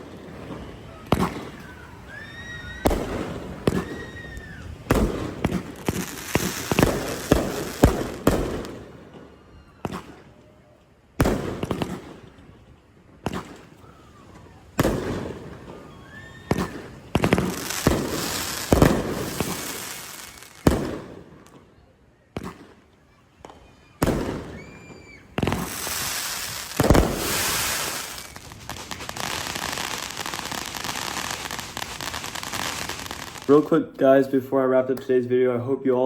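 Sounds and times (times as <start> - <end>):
fireworks banging and crackling: 0.0 - 10.5, 11.2 - 33.8.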